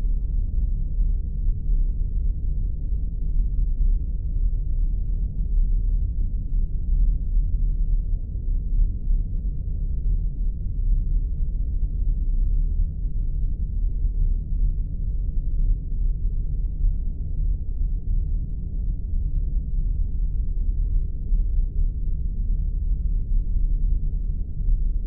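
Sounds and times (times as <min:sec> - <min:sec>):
deep rumbling drone: 0:00.0 - 0:25.0.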